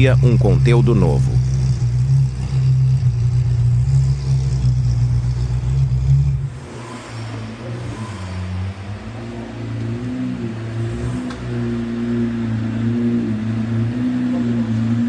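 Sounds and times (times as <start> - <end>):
sports car engine running: 0.0 - 15.0.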